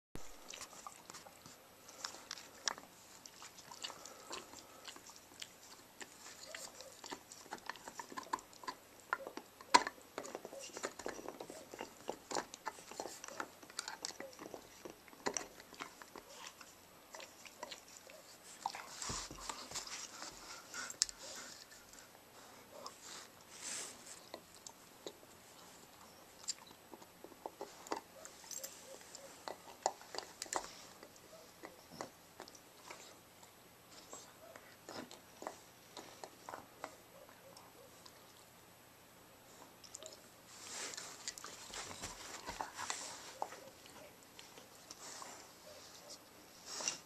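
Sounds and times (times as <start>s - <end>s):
dogs gnawing on a bone: 0.2s - 38.7s, 39.4s - 47.0s.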